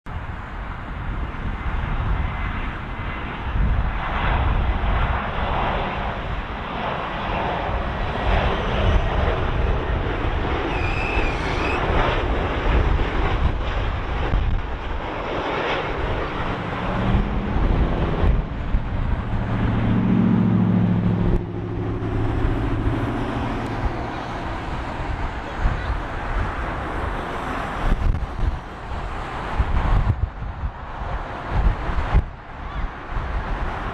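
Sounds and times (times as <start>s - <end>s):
jet engines roaring: 0.1s - 33.9s.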